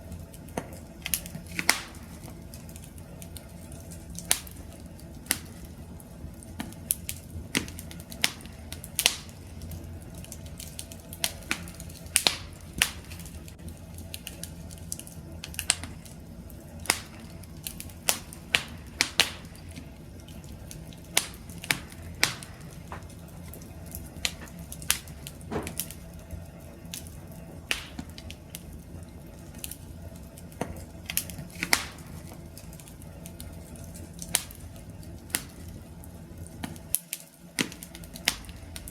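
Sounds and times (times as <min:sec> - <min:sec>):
low rumble of burning: 0:00.0 - 0:38.9
wood fire crackling and popping: 0:00.0 - 0:38.9.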